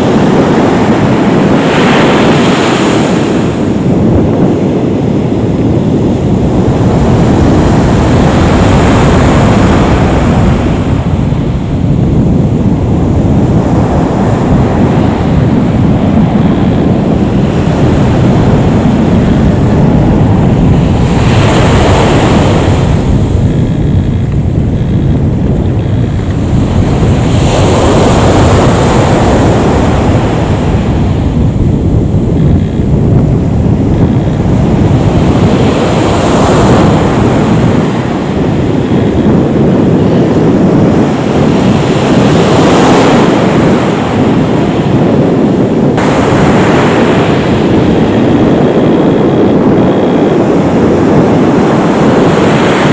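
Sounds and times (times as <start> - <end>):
jet engines roaring: 0.0 - 52.9
wind on microphone: 0.0 - 52.9.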